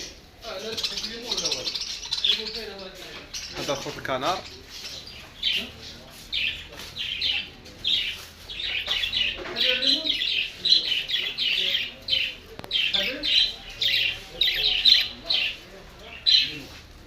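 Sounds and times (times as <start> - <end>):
caged birds calling harshly: 0.0 - 17.0.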